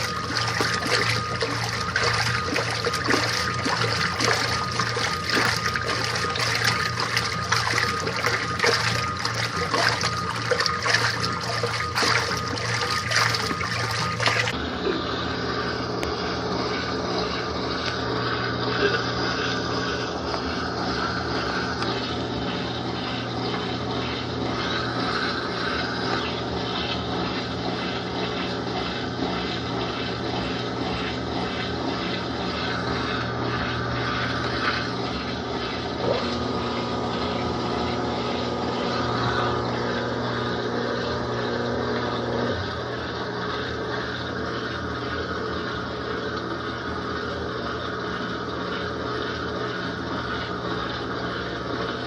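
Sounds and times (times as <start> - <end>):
washing machine motor hum: 0.0 - 52.0
water sloshing in washing machine: 0.0 - 52.0.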